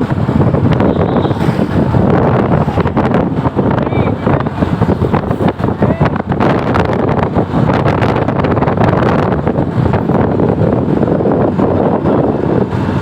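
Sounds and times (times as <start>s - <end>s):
road traffic passing: 0.0s - 13.0s
wind buffeting microphone: 0.0s - 13.0s.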